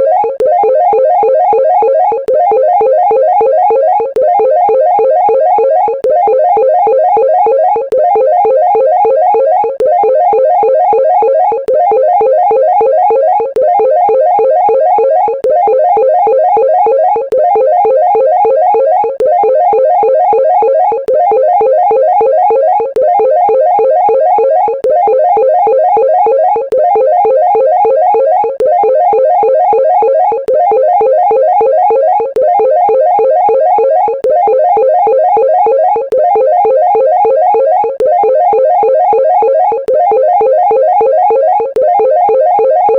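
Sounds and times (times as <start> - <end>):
fast looping chase music: 0.0 - 42.9.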